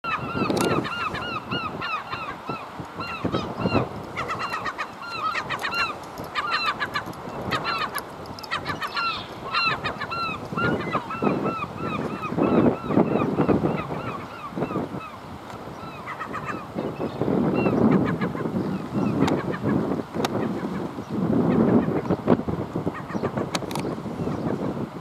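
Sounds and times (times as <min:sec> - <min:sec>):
wind rumbling on microphone: 0:00.0 - 0:25.0
flock of birds calling: 0:00.1 - 0:20.8.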